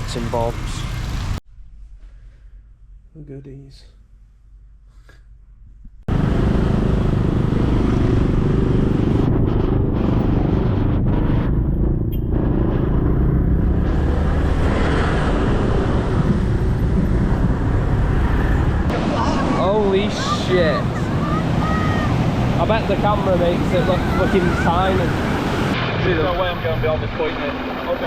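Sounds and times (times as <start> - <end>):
loud steady rumbling: 0.0 - 1.4, 6.1 - 28.0.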